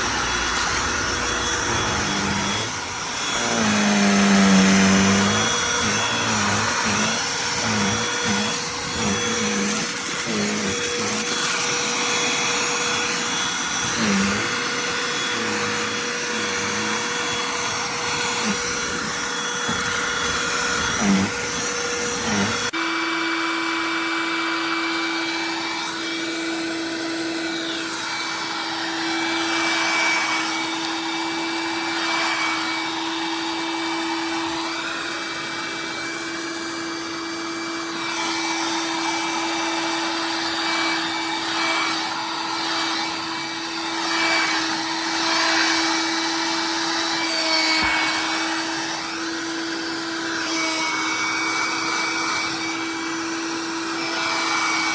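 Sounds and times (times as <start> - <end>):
vacuum motor whine: 0.0 - 54.9.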